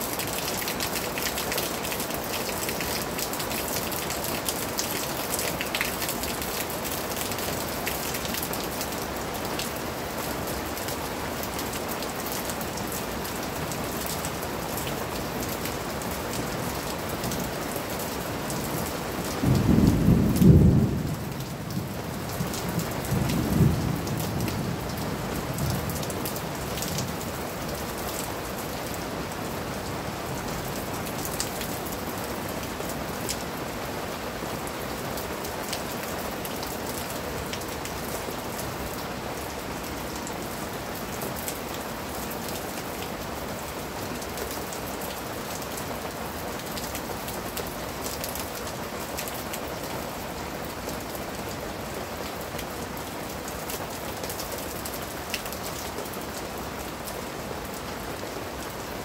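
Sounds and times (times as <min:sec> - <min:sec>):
rain on leaves and paving: 0:00.0 - 0:59.0
sharp close raindrops: 0:00.0 - 0:59.0.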